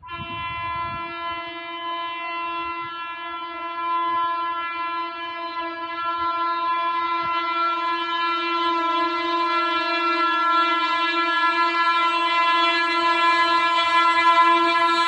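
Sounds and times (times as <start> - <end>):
train horn long note: 0.0 - 15.0.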